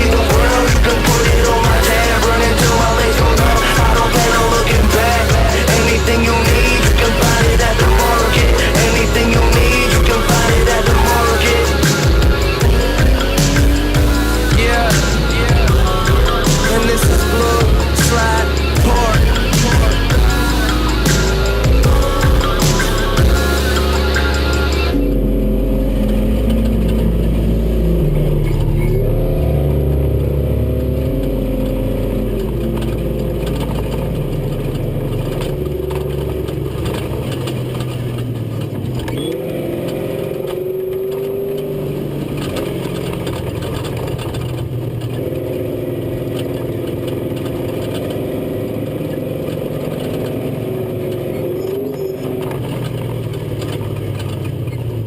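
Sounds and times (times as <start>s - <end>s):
bass-heavy music: 0.0s - 55.0s
truck engine revving: 0.0s - 55.0s.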